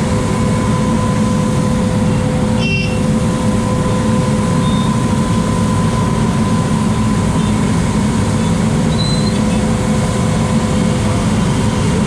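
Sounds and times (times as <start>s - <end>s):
road sweeper mechanical drone: 0.0s - 12.0s.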